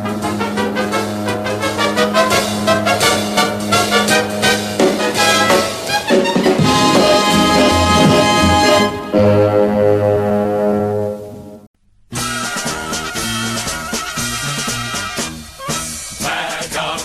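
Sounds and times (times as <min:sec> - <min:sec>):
brass dance band music: 0:00.0 - 0:17.0.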